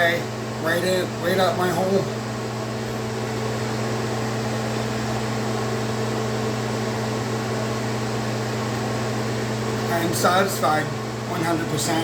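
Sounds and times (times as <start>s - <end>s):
machine hum with low tones: 0.0s - 12.0s.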